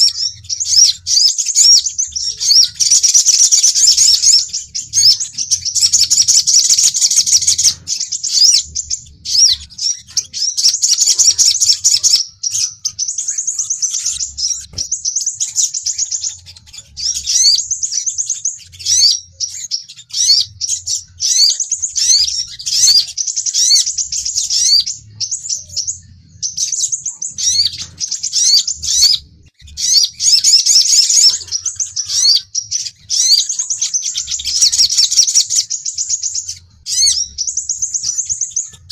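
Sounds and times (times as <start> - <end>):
sunbirds twittering: 0.0 - 38.9.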